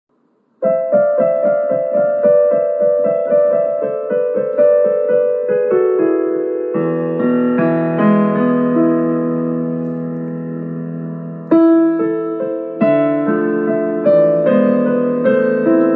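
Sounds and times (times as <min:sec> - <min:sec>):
gentle piano music: 0:00.6 - 0:15.9.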